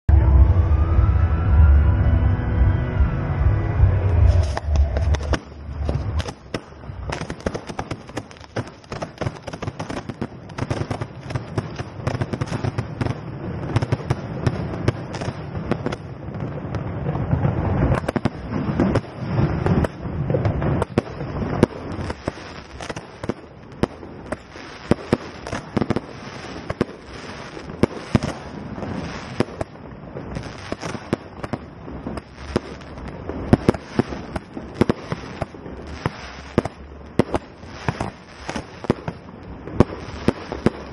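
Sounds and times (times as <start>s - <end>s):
fireworks bangs and crackles: 3.0s - 40.9s.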